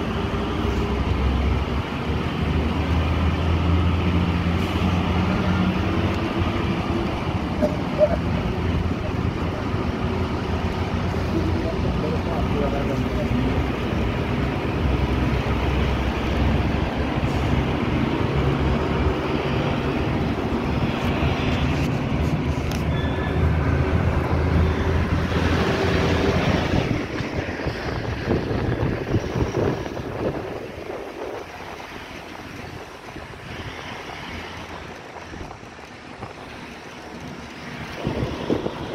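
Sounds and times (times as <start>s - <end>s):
road and tyre noise: 0.0s - 38.9s.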